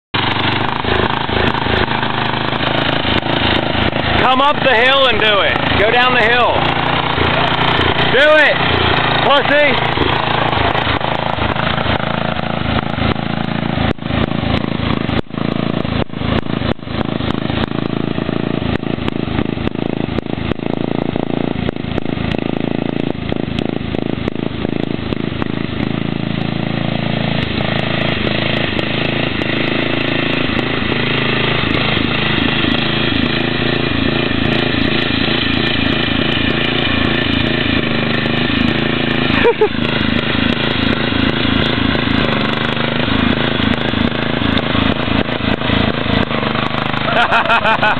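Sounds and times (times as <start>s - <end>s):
lawn tractor engine running: 0.1s - 47.9s.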